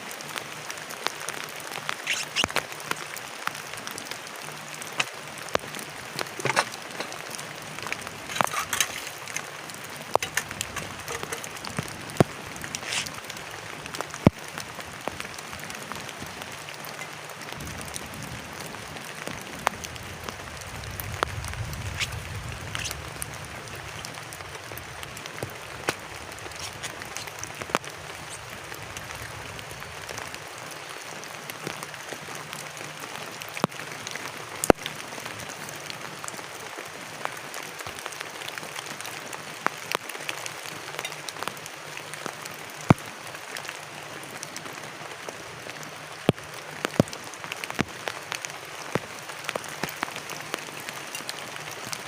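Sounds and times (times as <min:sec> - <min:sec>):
rain on a plastic tarp: 0:00.0 - 0:52.0.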